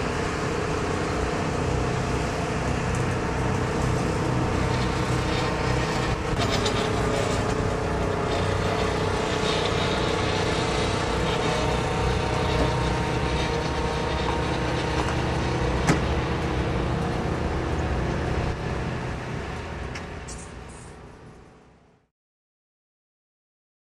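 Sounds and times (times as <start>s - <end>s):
vehicle engine running: 0.0s - 21.3s.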